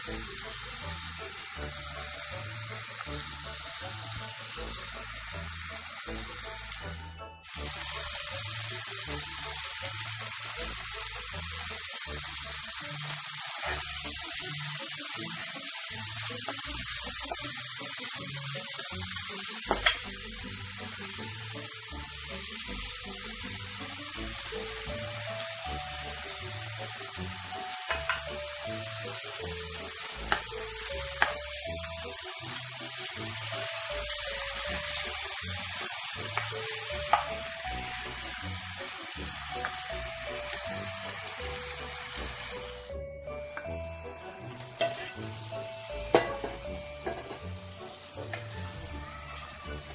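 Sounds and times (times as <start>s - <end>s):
faint background music: 0.0s - 49.9s
food sizzling in oil: 0.0s - 49.9s.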